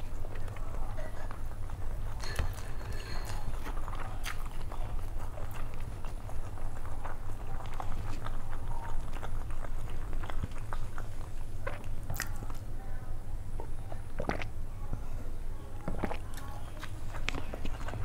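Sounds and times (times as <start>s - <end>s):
person chewing with mouth clicks: 0.0s - 12.7s, 13.5s - 14.6s, 15.8s - 18.0s
steady low hum: 0.0s - 18.0s.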